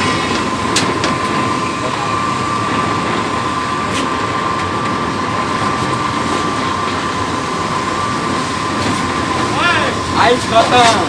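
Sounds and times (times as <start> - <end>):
loud machinery with whine: 0.0 - 11.0.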